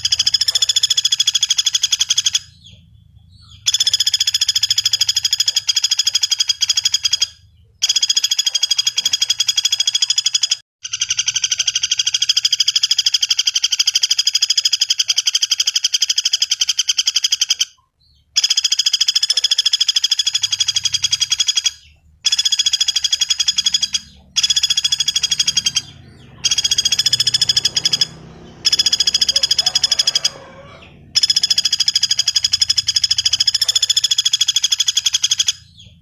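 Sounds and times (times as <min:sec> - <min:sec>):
woodpecker rattling trill: 0:00.0 - 0:36.0.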